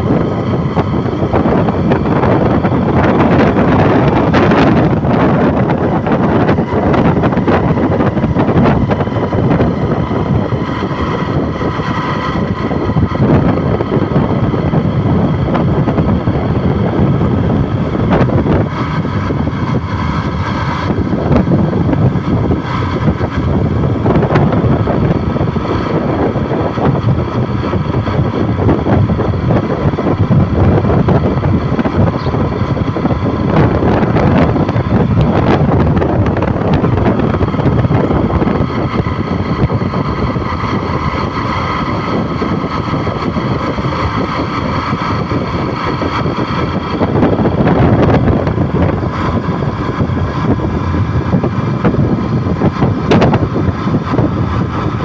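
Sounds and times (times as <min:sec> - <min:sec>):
vehicle in motion: 0:00.0 - 0:55.0
wind noise on microphone: 0:00.0 - 0:55.0.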